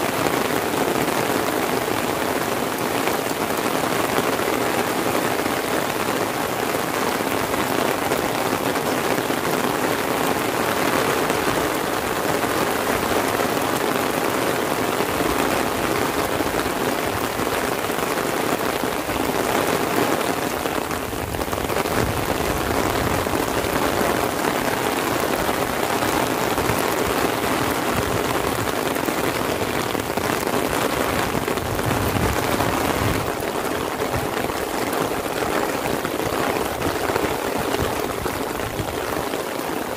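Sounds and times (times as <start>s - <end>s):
rain on paved road: 0.0s - 39.9s
rain on umbrella: 0.0s - 39.9s.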